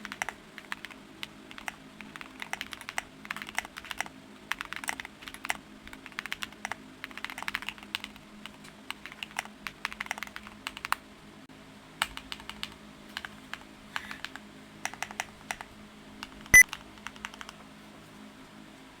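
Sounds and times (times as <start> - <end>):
mechanical keyboard typing: 0.0 - 11.0, 12.0 - 17.6.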